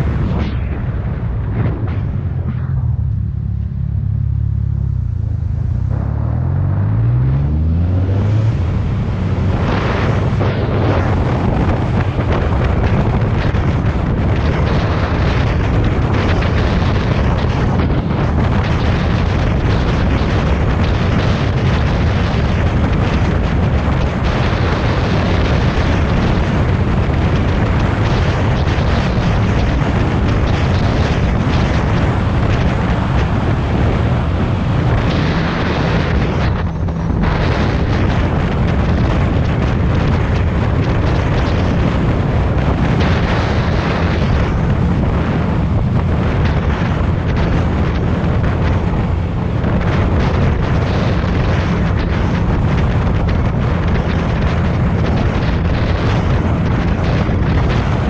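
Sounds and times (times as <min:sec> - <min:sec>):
motorcycle engine running: 0:00.0 - 0:58.0
wind buffeting on microphone: 0:00.0 - 0:58.0.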